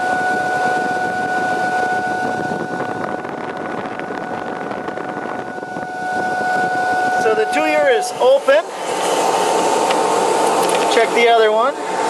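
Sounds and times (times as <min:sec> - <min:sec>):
air blast whistling through pipe: 0:00.0 - 0:10.7.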